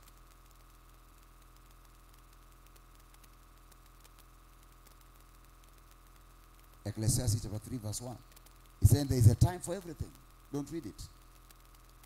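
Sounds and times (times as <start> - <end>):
faint electrical hum and hiss: 0.0 - 12.0.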